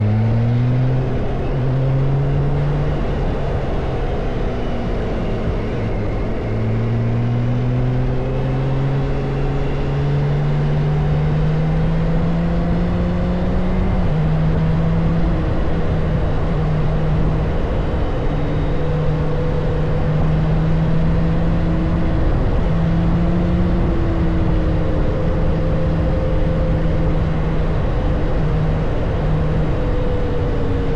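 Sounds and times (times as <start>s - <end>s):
motorcycle engine accelerating: 0.0s - 30.9s
road and wind noise: 0.0s - 30.9s.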